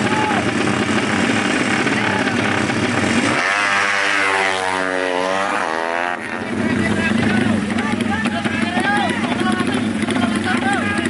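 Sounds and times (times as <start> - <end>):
motorcycle accelerating away: 0.0 - 11.0
motorcycle engines revving: 0.0 - 11.0.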